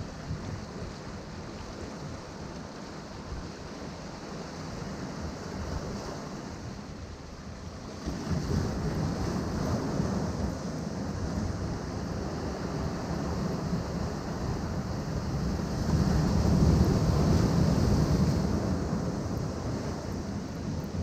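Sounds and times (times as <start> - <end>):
surf washing over rocks: 0.0 - 21.0.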